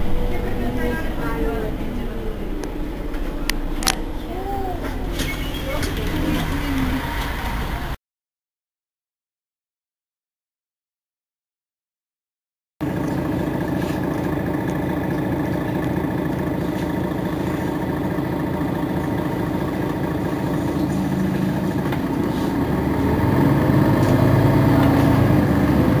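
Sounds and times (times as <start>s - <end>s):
bus engine idling and revving: 0.0s - 8.0s, 12.8s - 26.0s.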